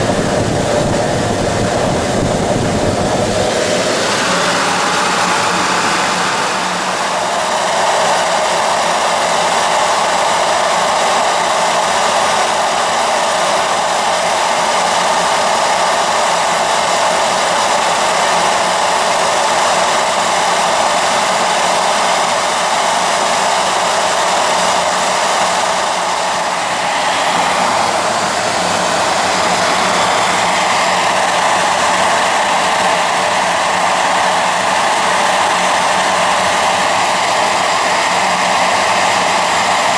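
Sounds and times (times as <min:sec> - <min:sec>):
high engine whine: 0:00.0 - 0:39.9
jet engine roaring: 0:00.0 - 0:39.9.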